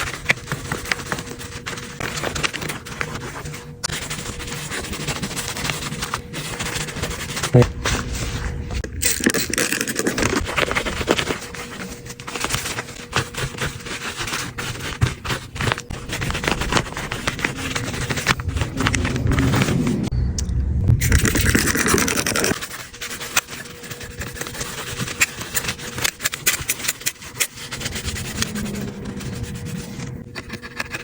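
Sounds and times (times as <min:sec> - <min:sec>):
scraping and handling noises: 0:00.0 - 0:20.1, 0:21.0 - 0:31.0.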